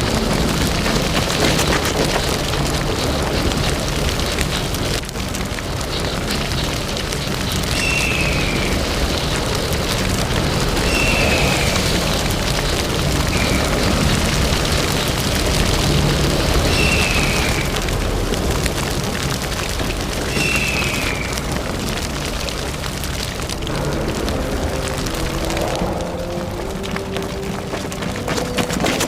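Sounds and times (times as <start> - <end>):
forest fire crackling: 0.0 - 29.0.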